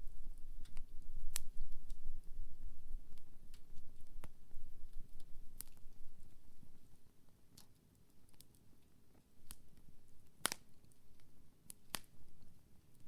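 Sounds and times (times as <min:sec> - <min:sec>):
campfire crackling: 0:00.1 - 0:13.0
burning wood popping: 0:00.3 - 0:08.6, 0:09.4 - 0:13.0.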